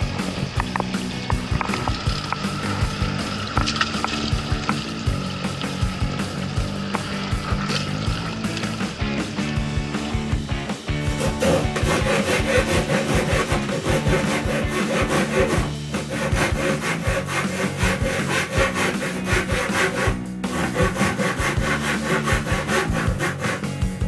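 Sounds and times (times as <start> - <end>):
handsaw cutting wood: 0.0 - 23.8.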